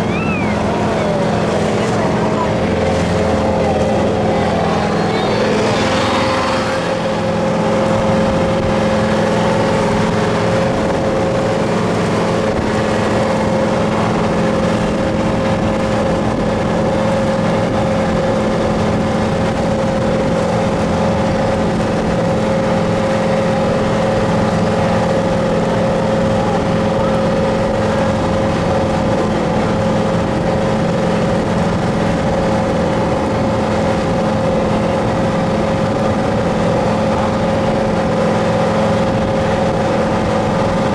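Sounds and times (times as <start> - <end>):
constant rushing noise: 0.0 - 40.9
motorboat engine running: 0.0 - 40.9.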